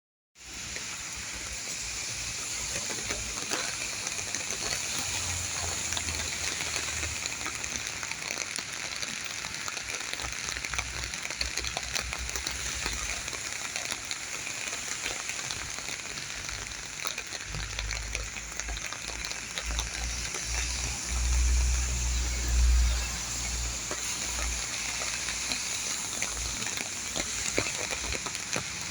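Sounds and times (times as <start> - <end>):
steady rain falling: 0.4 - 28.9.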